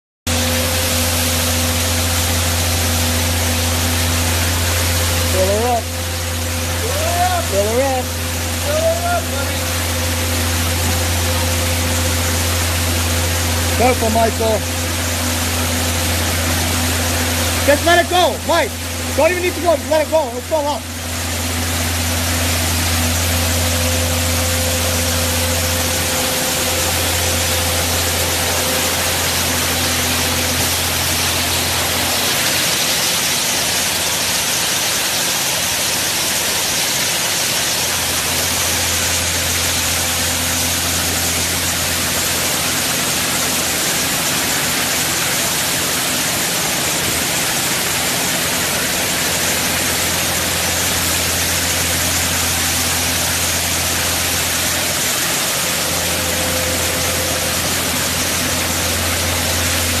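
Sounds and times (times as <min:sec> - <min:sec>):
truck engine hum: 0:00.3 - 0:33.9, 0:38.3 - 1:00.0
wet concrete hissing down chute: 0:00.7 - 1:00.0.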